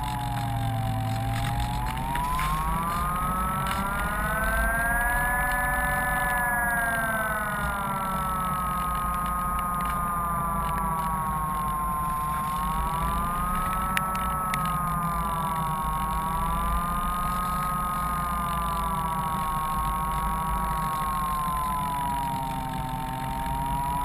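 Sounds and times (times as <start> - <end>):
electric motor and propeller whining: 0.0 - 24.0.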